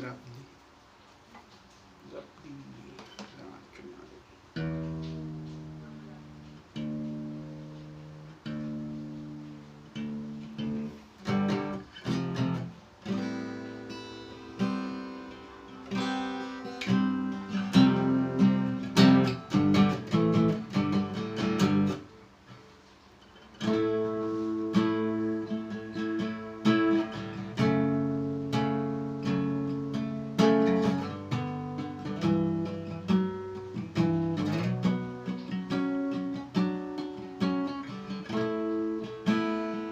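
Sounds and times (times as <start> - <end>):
acoustic guitar chords ringing: 4.0 - 39.9.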